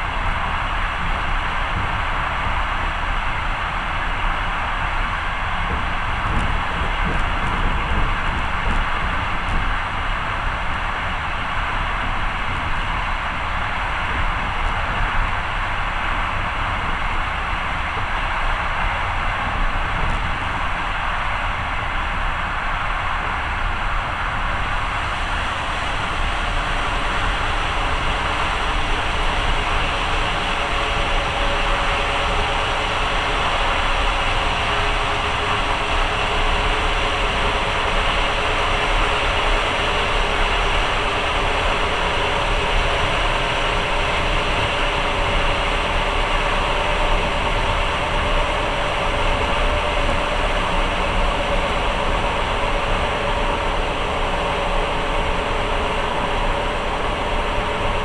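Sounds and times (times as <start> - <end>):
faint steady whine: 0.0 - 58.0
train running noise inside carriage: 0.0 - 58.0.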